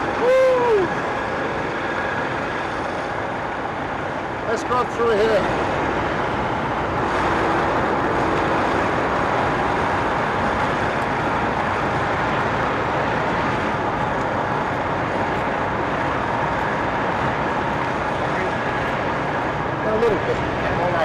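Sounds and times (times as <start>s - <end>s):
diesel trucks idling: 0.0s - 21.0s.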